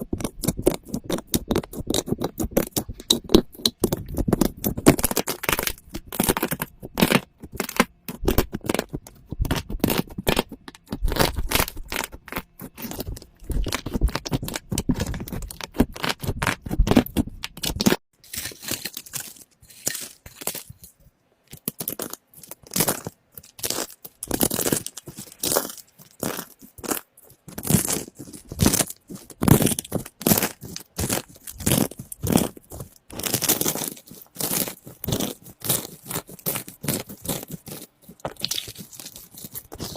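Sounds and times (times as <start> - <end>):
slime crackling and popping: 0.0 - 20.8, 21.5 - 39.9.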